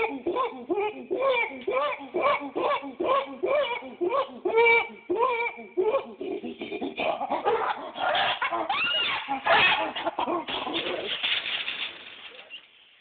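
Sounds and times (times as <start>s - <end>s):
chimpanzee calls and cries: 0.0s - 11.1s.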